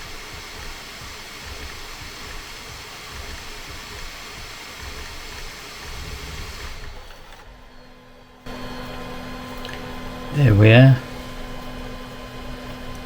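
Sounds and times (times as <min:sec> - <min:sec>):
cooling fans blowing: 0:00.0 - 0:13.0.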